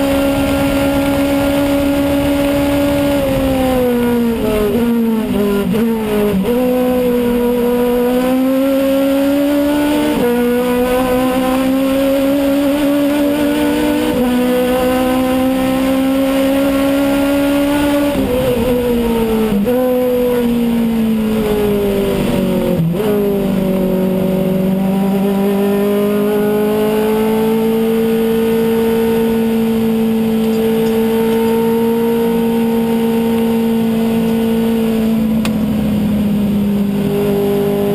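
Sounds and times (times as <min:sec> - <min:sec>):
racing car engine under load: 0:00.0 - 0:37.9.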